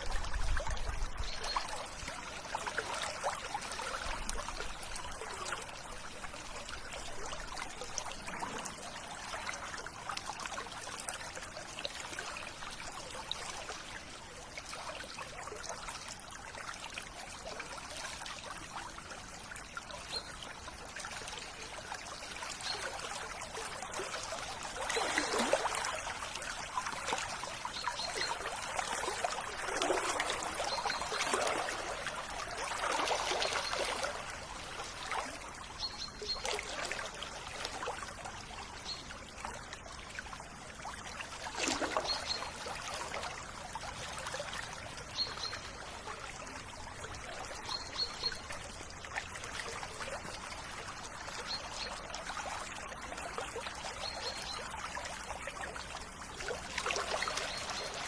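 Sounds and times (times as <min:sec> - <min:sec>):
river water trickling and splashing: 0:00.0 - 0:58.0.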